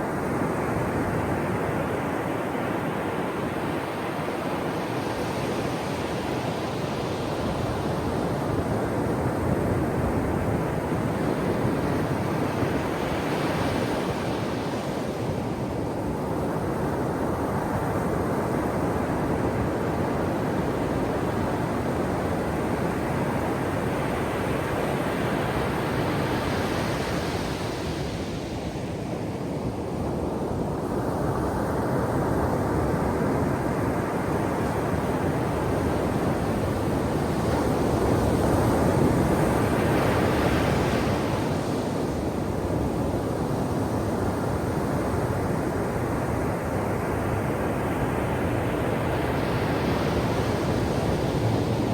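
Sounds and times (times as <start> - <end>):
ocean surf washing ashore: 0.0 - 51.9.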